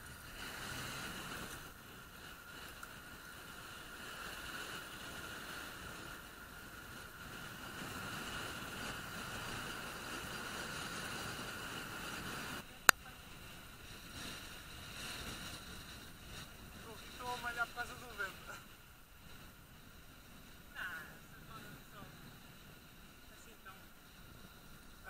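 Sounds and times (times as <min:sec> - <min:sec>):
bicycle road noise: 0:00.0 - 0:25.0.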